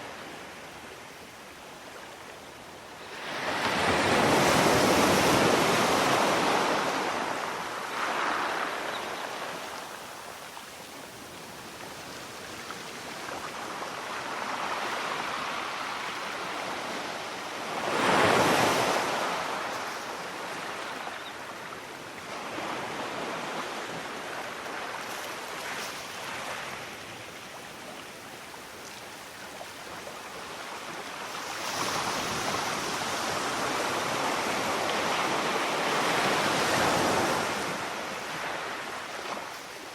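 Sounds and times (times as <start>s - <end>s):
sea waves washing onto shore: 3.0s - 39.9s.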